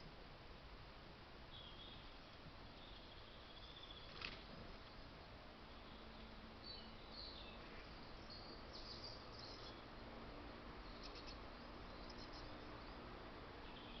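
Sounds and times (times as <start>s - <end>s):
low background hiss: 0.0s - 14.0s
faint bird chirps: 1.5s - 5.1s, 5.7s - 10.1s, 10.8s - 14.0s.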